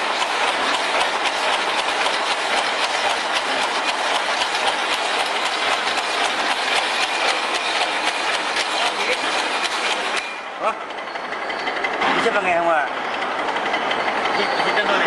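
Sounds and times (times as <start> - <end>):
wire machine clattering: 0.0 - 15.0.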